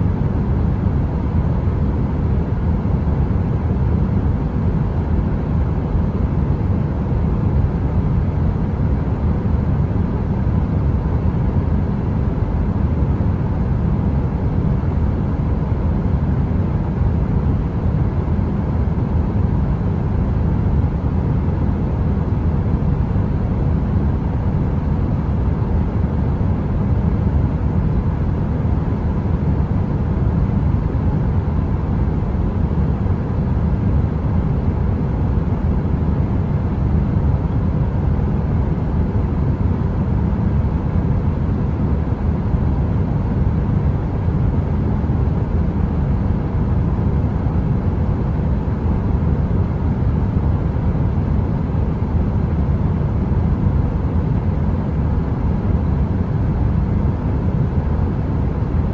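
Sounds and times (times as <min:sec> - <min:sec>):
faint hum: 0:00.0 - 0:58.9.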